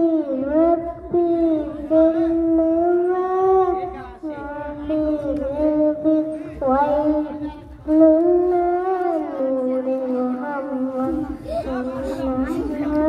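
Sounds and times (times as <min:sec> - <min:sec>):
girl singing into microphone: 0:00.0 - 0:13.0.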